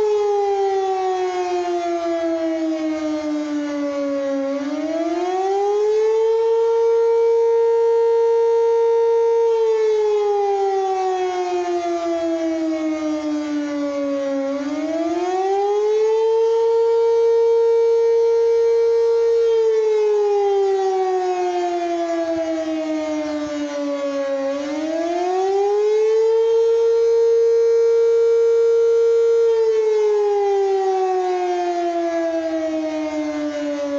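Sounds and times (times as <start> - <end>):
warning siren wailing: 0.0 - 33.9.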